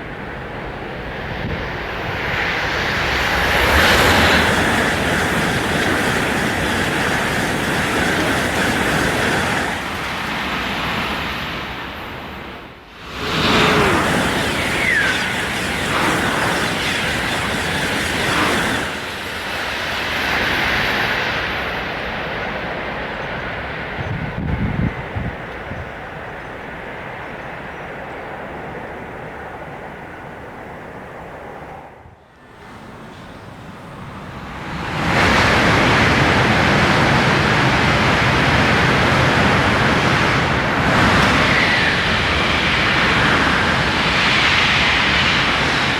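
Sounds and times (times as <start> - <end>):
high-speed train passing: 0.0 - 45.9.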